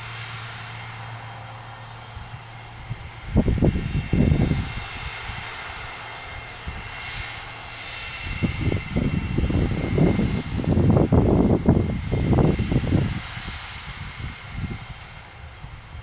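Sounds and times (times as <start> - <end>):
distant machine drone: 0.0 - 16.0
wind buffeting microphone: 2.0 - 16.0.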